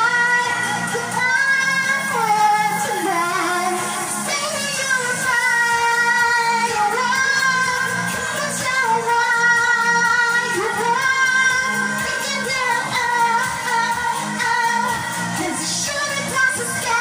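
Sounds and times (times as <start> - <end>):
backing track with steady beat: 0.0 - 17.0
woman singing: 0.0 - 17.0.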